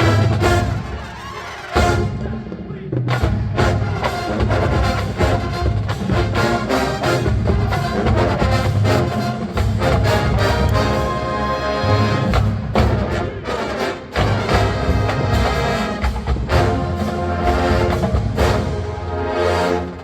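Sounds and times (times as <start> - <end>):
brass section playing: 0.0 - 2.5, 3.1 - 20.0
drumline drum hits: 1.8 - 11.1, 12.3 - 19.1.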